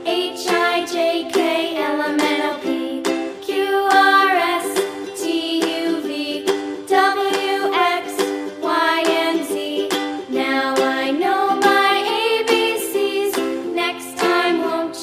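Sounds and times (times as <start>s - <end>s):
cheerful music with plucked ukulele: 0.0s - 15.0s.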